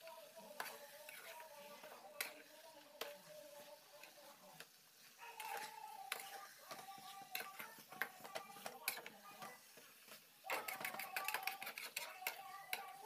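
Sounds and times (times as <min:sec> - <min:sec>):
metal spatula scraping pan: 0:00.4 - 0:04.2, 0:05.3 - 0:13.0.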